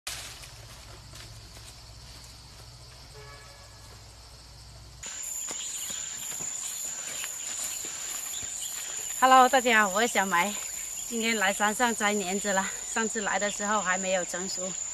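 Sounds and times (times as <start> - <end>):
faint footsteps on path: 0.0 - 4.4, 5.0 - 13.8
insect high-pitched trill: 0.1 - 14.9.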